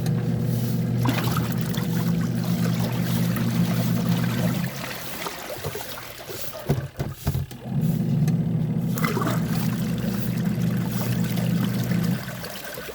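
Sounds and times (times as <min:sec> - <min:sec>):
washing machine motor hum: 0:00.0 - 0:12.9
water sloshing: 0:00.6 - 0:08.0, 0:08.8 - 0:12.9.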